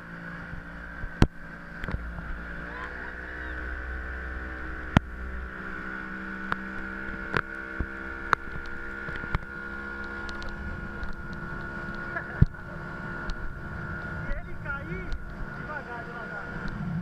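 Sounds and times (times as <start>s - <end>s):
deep rumble: 0.0s - 17.0s
steady motor hum: 0.0s - 17.0s.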